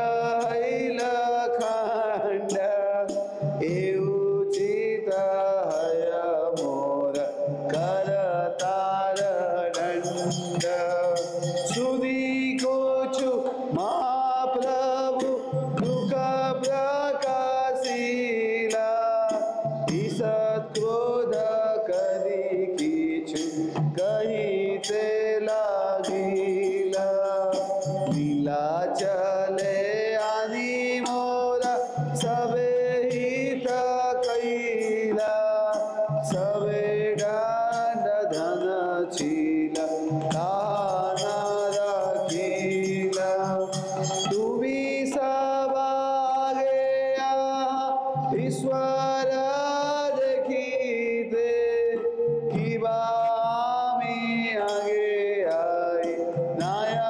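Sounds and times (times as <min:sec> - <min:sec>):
instrumental accompaniment: 0:00.0 - 0:47.0
man singing a devotional song: 0:00.0 - 0:57.0
steady percussive beat: 0:00.0 - 0:57.0.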